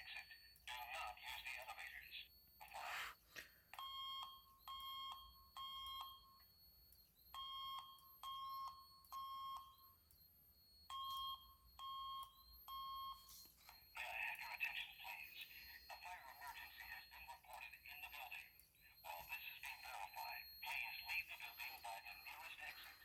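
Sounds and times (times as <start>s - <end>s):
fire alarm beeping: 0.0s - 23.0s.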